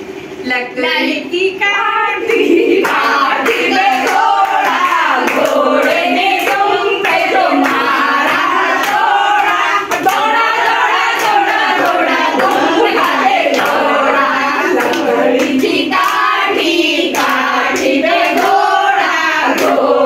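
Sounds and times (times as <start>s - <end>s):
women singing together: 0.9s - 20.0s
rhythmic hand clapping: 2.5s - 20.0s.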